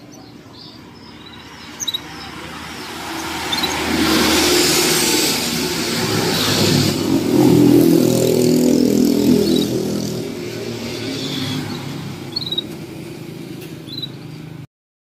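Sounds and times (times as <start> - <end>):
canaries chirping: 0.0 - 14.6
motor vehicle engine running: 1.2 - 14.6.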